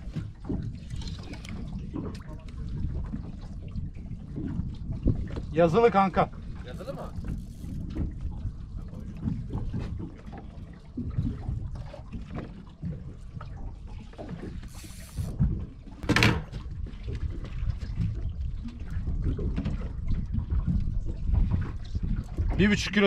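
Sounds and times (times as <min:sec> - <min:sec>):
water sloshing against boat hull: 0:00.0 - 0:23.0.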